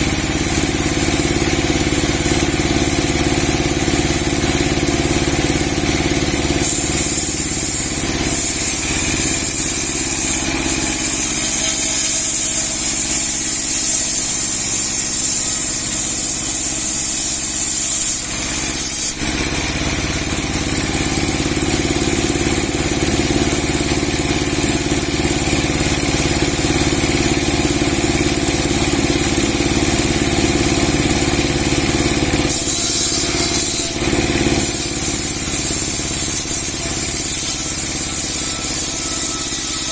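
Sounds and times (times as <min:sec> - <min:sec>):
log-sawing machine blade hissing: 0:00.0 - 0:39.9
motor hum: 0:00.0 - 0:39.9.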